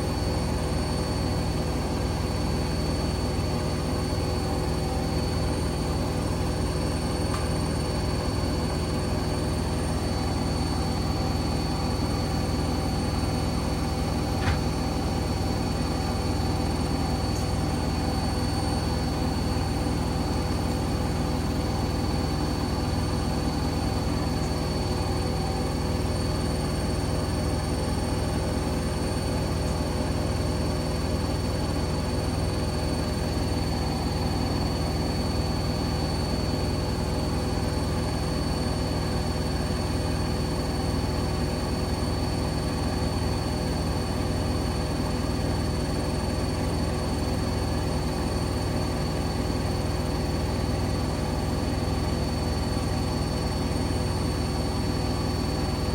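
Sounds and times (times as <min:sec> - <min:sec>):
washing machine spinning: 0:00.0 - 0:55.9.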